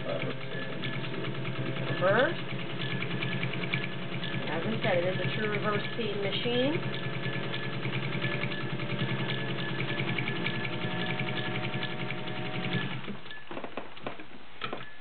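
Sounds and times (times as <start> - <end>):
sewing machine running: 0.0 - 13.2.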